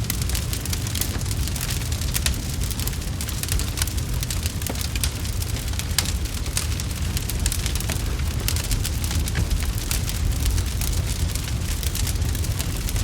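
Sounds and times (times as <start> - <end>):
low rumble of flame: 0.0 - 13.0
wood fire crackling and popping: 0.0 - 13.0.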